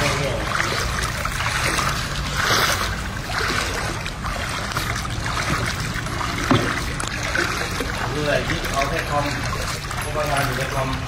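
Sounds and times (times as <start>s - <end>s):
water swishing and splashing: 0.0s - 11.0s.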